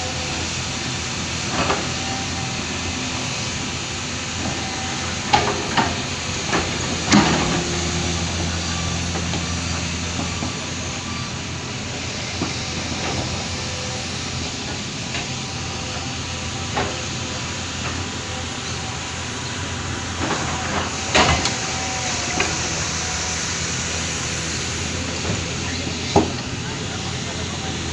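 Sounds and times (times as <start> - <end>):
diesel engine drone: 0.0 - 27.9.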